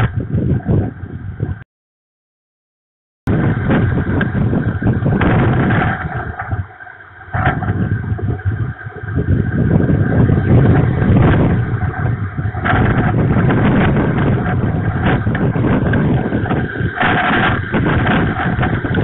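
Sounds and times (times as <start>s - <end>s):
gusting wind buffeting microphone: 0.0s - 1.6s, 3.3s - 19.0s.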